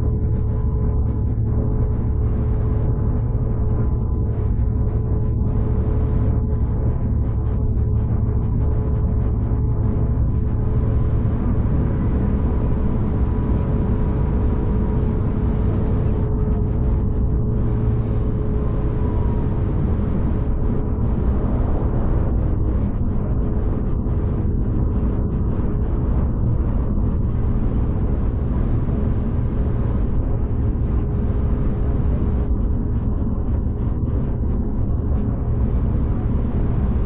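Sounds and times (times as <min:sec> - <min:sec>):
thin steady hum: 0:00.0 - 0:37.0
train rumble inside carriage: 0:00.0 - 0:37.0.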